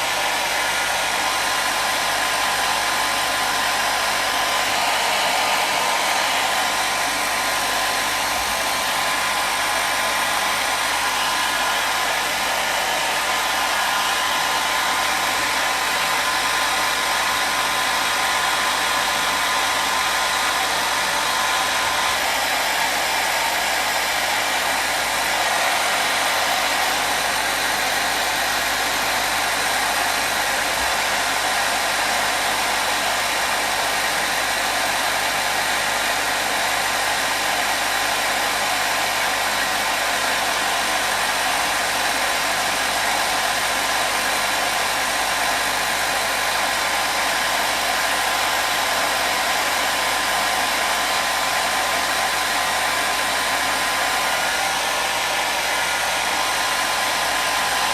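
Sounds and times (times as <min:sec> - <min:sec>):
hair dryer blowing air: 0:00.0 - 0:57.9.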